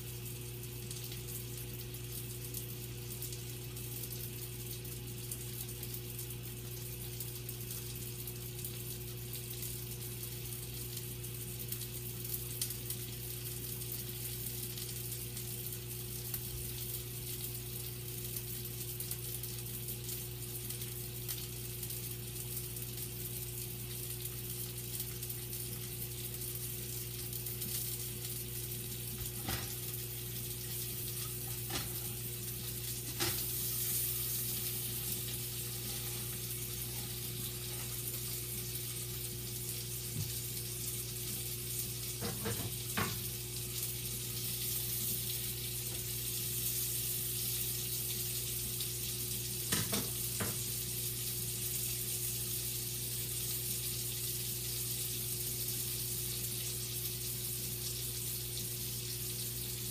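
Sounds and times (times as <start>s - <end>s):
sausage sizzling in a pan: 0.0s - 59.9s.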